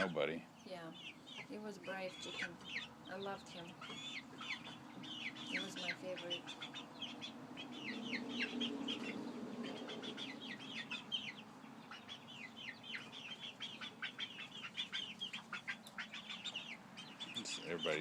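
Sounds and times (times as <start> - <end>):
young chickens peeping: 0.0 - 18.0.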